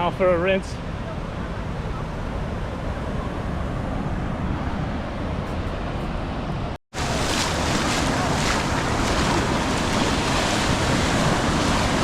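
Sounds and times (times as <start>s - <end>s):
sea surf: 0.0s - 12.0s
wind buffeting microphone: 1.3s - 12.0s.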